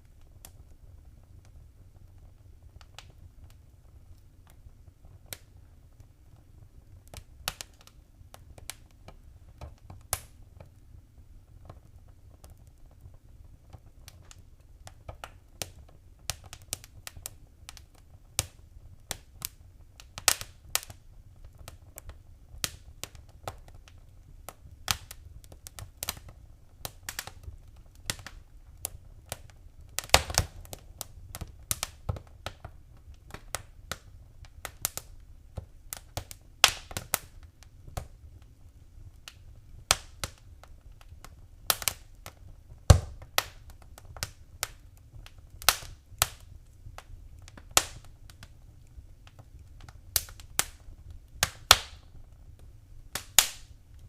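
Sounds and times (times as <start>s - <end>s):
wood fire crackling: 0.0s - 54.0s
sharp pops and snaps: 0.1s - 54.0s.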